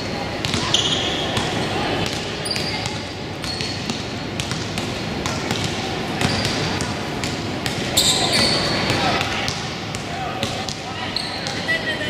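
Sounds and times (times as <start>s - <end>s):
sneaker squeaks: 0.0s - 4.6s, 5.2s - 9.7s, 10.4s - 12.0s
basketballs bouncing on gym floor: 0.3s - 11.8s.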